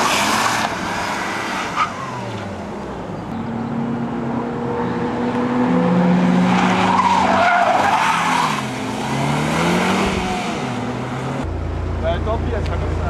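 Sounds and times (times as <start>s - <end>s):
car engine pulling hard: 0.0s - 13.0s.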